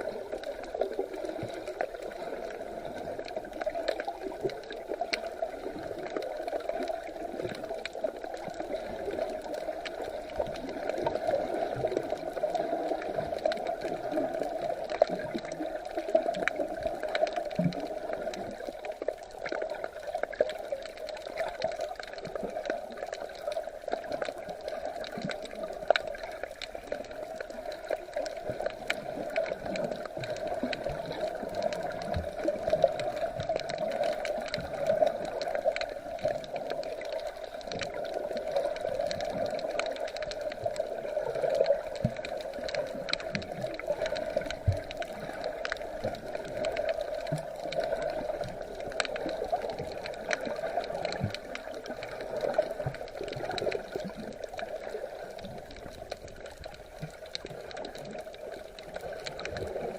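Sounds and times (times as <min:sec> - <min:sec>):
muffled wash of water: 0:00.0 - 0:59.9
small crackles and clicks: 0:00.0 - 0:59.9
water gurgling and sloshing: 0:00.0 - 0:59.9.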